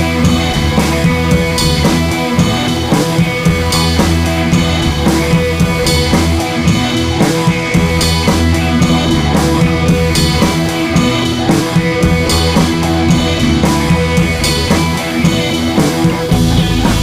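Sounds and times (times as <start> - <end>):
music with drums and guitar: 0.0 - 17.0.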